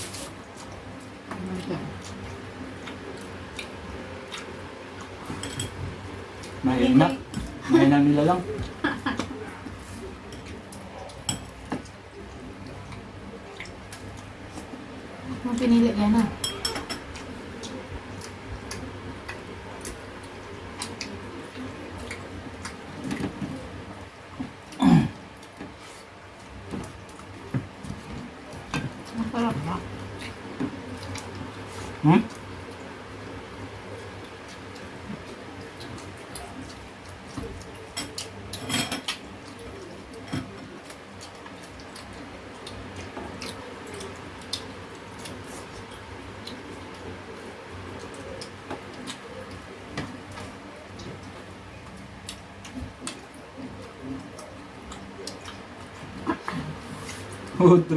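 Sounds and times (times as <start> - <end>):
soft chewing: 0.0 - 57.9.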